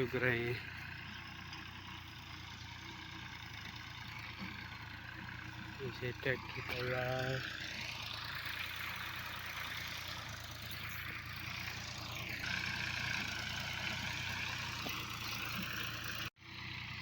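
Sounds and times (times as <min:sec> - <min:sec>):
engine droning: 0:00.0 - 0:17.0
high engine whine: 0:00.0 - 0:17.0.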